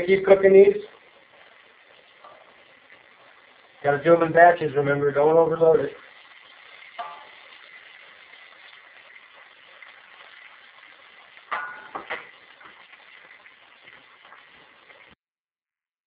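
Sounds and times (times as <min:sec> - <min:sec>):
food frying in hot oil: 0:00.0 - 0:15.2.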